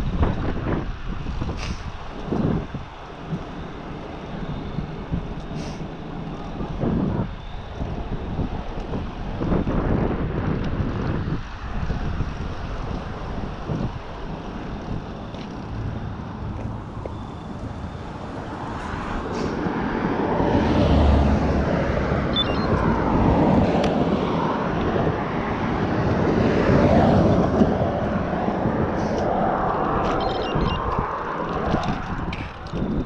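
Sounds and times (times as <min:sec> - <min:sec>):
wind rushing over microphone: 0:00.0 - 0:33.0.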